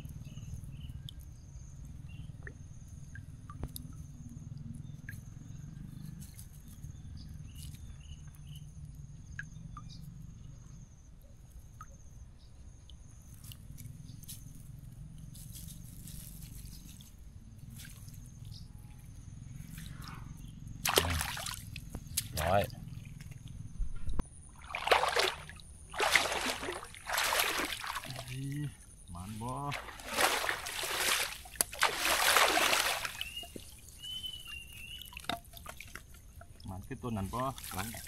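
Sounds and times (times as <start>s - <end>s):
high insect trill: 0.0s - 38.0s.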